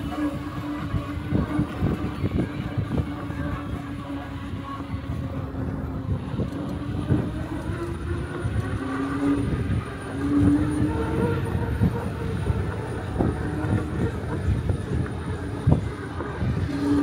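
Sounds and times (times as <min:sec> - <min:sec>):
electric motor whine: 0:00.0 - 0:17.0
low road rumble: 0:00.0 - 0:17.0.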